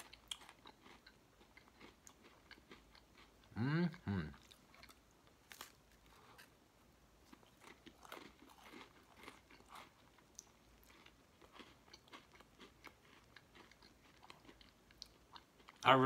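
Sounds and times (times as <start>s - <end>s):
faint chewing and crunching: 0.0s - 16.0s.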